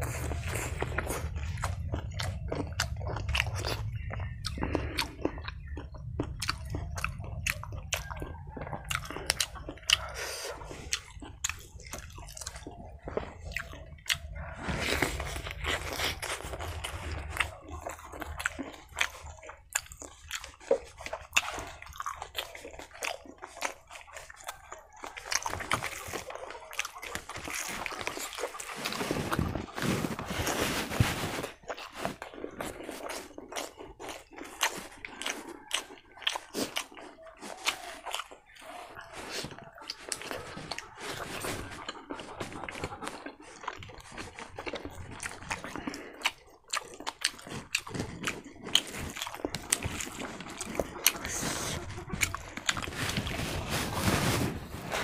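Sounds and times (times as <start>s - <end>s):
wet chewing and lip smacks: 0.0s - 54.0s
fingers squishing food: 0.0s - 55.0s.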